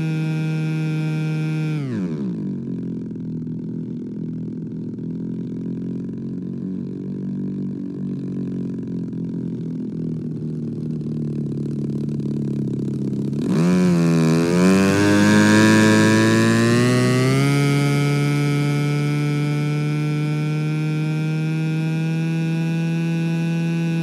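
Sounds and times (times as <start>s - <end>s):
model airplane motor droning: 0.0s - 10.0s, 11.2s - 24.0s.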